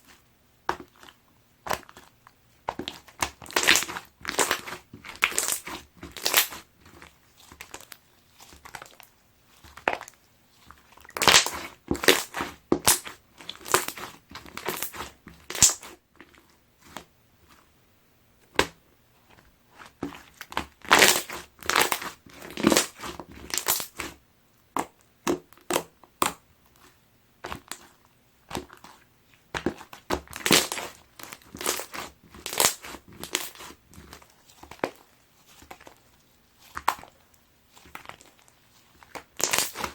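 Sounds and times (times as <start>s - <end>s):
slime squishing: 0.0s - 17.7s, 18.5s - 39.9s.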